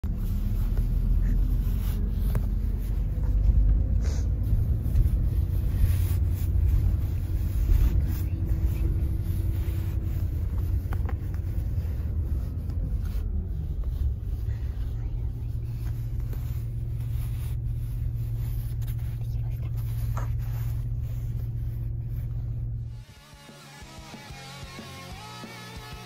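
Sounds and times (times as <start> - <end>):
bus engine and road rumble: 0.0 - 23.1.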